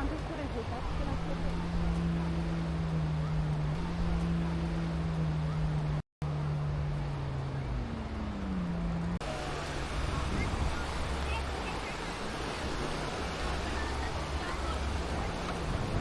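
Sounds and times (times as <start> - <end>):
motorboat engine droning: 0.0 - 16.0
wind and surf hiss: 0.0 - 16.0.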